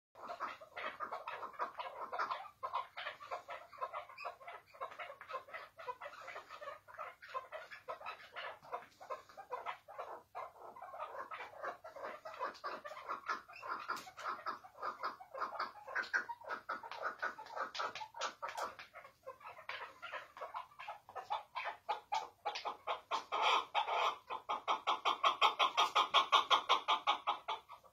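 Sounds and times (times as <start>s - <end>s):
partridge chattering call: 0.2s - 26.7s.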